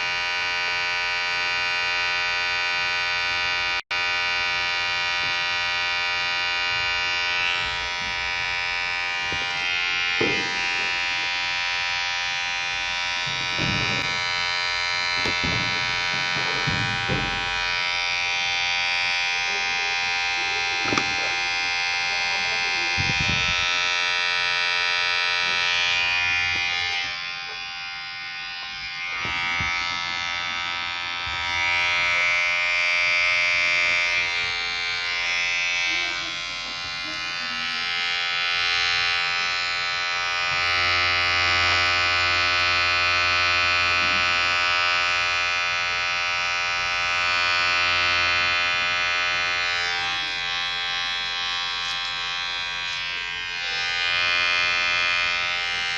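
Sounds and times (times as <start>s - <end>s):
electric hair clipper buzzing: 0.0s - 55.9s.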